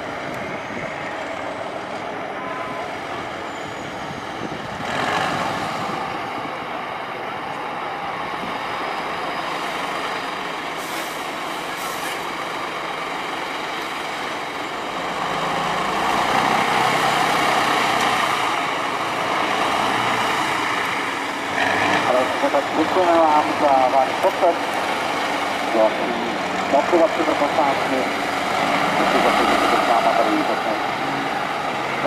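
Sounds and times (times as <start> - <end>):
diesel truck engine running: 0.0 - 32.0.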